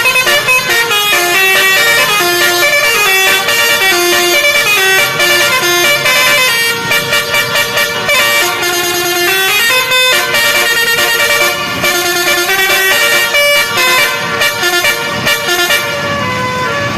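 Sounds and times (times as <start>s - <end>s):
musical air horn tune: 0.0s - 16.9s.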